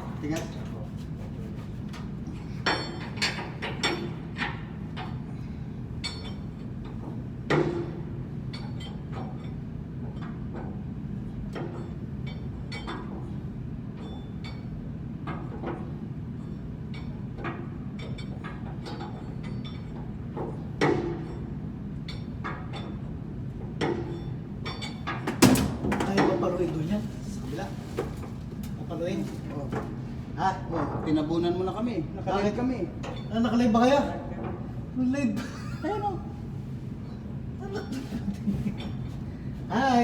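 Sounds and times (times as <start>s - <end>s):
low machinery hum: 0.0s - 40.0s.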